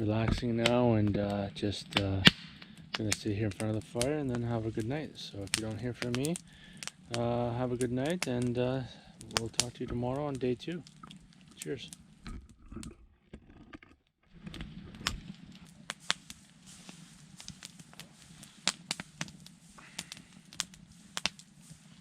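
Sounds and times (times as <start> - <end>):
campfire crackling and popping: 0.0 - 13.6, 14.2 - 22.0.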